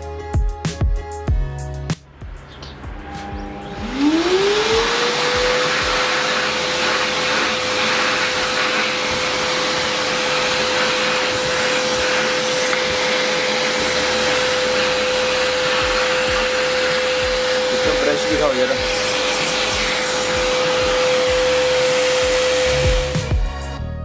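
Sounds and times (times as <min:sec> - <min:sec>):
vacuum cleaner motor whine: 0:02.2 - 0:23.6.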